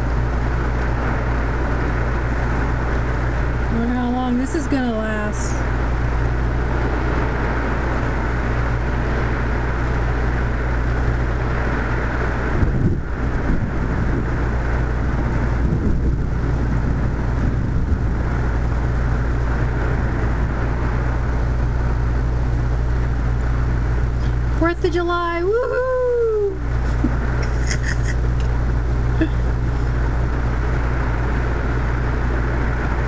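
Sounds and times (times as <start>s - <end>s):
heavy rain pouring: 0.0s - 4.4s, 5.5s - 24.7s, 25.4s - 33.0s
low continuous rumble: 0.0s - 33.0s.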